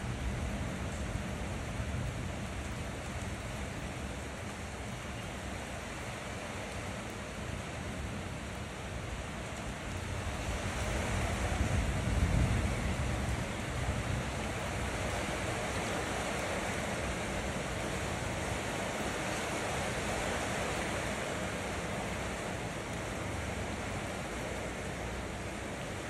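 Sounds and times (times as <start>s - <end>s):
rain on concrete and puddles: 0.0s - 26.0s.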